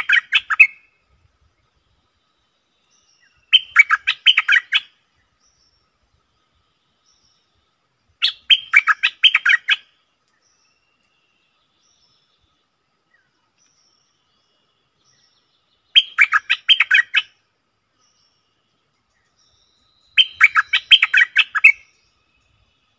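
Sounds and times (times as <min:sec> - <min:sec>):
faint thin bird calls: 0:00.0 - 0:01.0, 0:01.8 - 0:17.4, 0:18.0 - 0:22.9
bulbul singing: 0:00.0 - 0:22.9.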